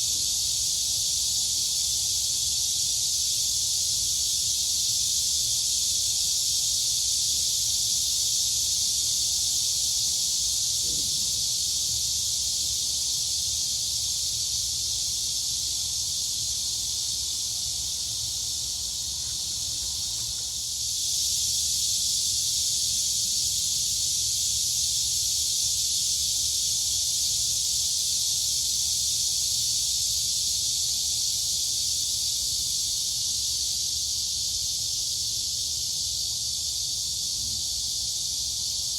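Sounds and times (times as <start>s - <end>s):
crickets and cicadas chirping: 0.0s - 38.9s.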